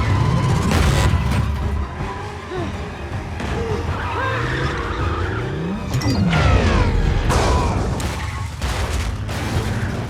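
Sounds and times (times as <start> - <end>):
action film music score: 0.0 - 10.0.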